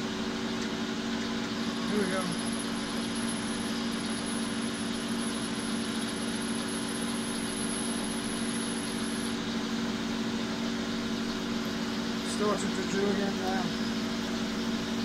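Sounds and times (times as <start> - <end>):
metal lathe humming: 0.0 - 15.0.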